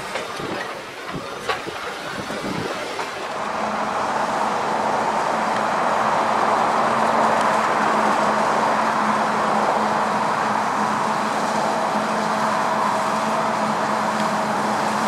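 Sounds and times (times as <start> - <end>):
forage harvester running: 0.0 - 15.0.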